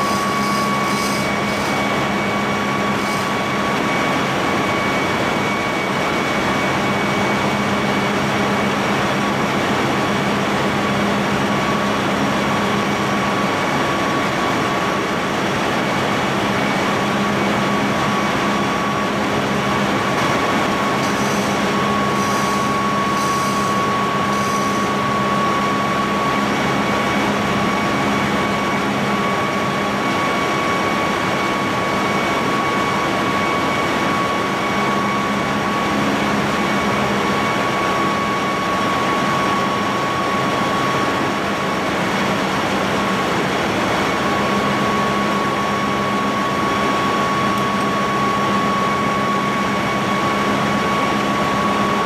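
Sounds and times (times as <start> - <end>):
engine room machinery drone: 0.0 - 52.0.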